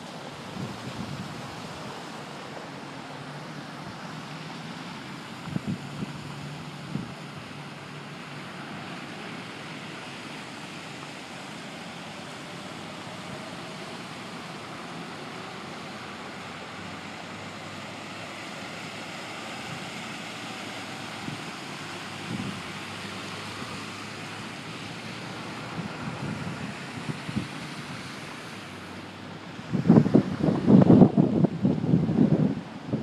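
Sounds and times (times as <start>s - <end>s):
seawater rushing across road: 0.0s - 33.0s
vehicle splashing through water: 0.0s - 33.0s.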